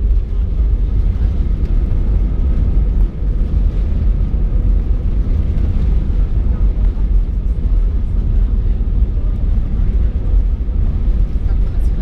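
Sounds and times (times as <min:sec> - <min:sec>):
airplane engines rumbling in cabin: 0:00.0 - 0:12.0.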